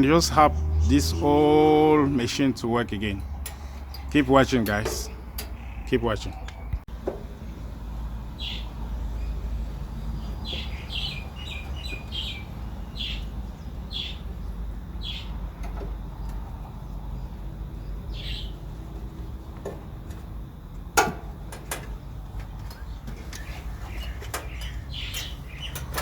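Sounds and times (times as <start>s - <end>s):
bird chirping: 0.0s - 19.4s, 21.9s - 26.0s.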